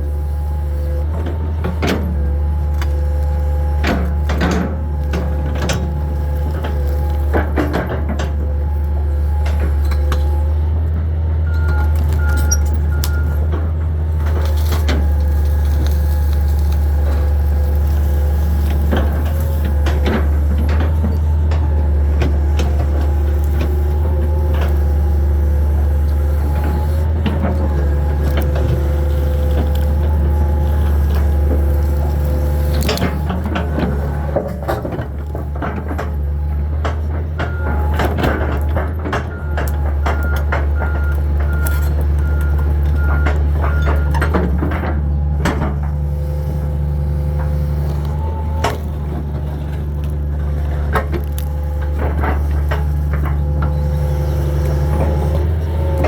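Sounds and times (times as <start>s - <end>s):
excavator diesel engine running: 0.0s - 56.0s
hydraulic whine: 0.0s - 56.0s
wood and debris cracking: 0.1s - 56.0s.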